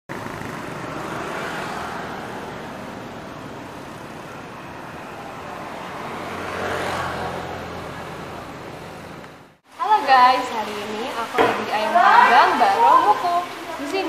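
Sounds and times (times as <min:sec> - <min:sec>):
road traffic noise: 0:00.1 - 0:14.0
vehicle passing: 0:00.1 - 0:14.0.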